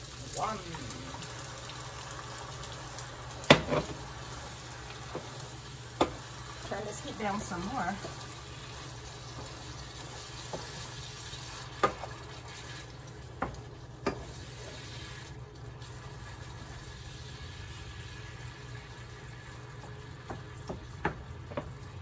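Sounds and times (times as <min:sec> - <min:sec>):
food sizzling in a skillet: 0:00.0 - 0:22.0.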